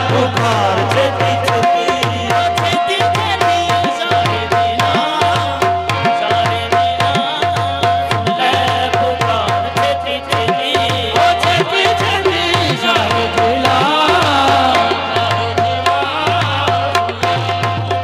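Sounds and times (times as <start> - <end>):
harmonium held note: 0.0 - 18.0
tabla playing quick rhythm: 0.0 - 18.0.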